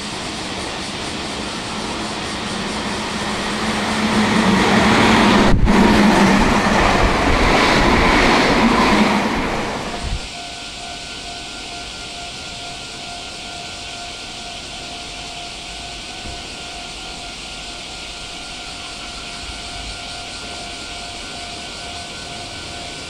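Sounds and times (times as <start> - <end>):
electric train equipment whine: 0.0 - 23.0.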